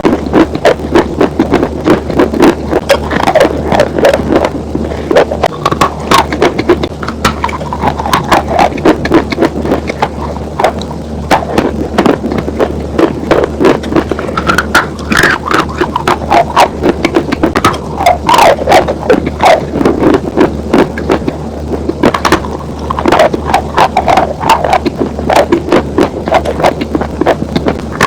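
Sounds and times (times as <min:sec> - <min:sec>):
chalk crunching being chewed: 0:00.1 - 0:21.4, 0:22.0 - 0:28.0.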